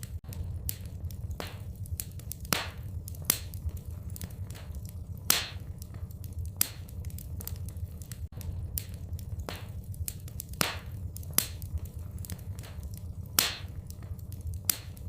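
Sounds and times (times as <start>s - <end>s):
fire crackling in a fireplace: 0.0s - 15.0s
steady low rumble: 0.0s - 15.0s.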